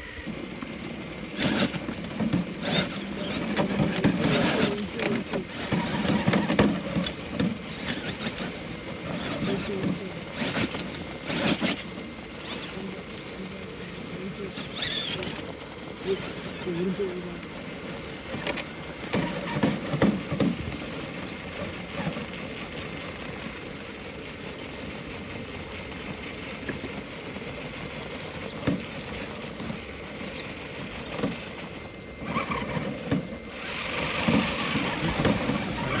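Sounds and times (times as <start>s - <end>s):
small electric motors whirring: 0.0s - 36.0s.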